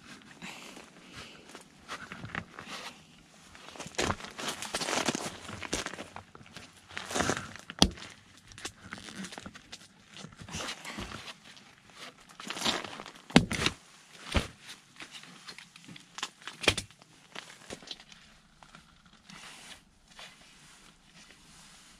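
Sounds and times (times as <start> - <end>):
fabric rustling: 0.0 - 16.4, 17.2 - 21.9.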